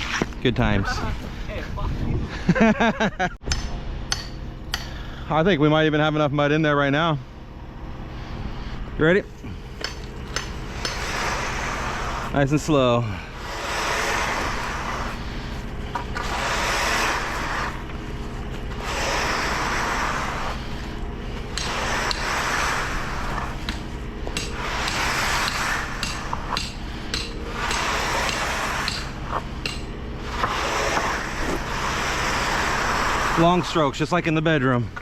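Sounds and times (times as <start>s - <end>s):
rake scraping wet concrete: 0.0s - 1.6s, 8.1s - 35.0s
truck engine humming: 2.6s - 35.0s.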